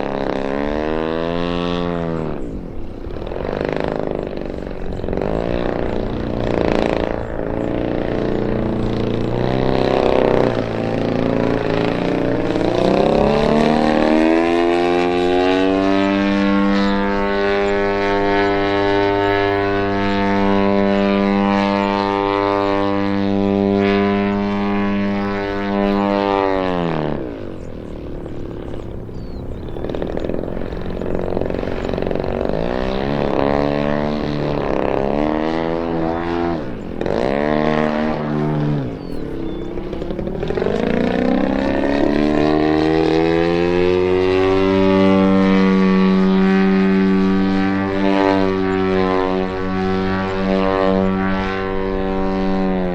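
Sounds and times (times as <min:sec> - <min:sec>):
model airplane engine and propeller: 0:00.0 - 0:52.9.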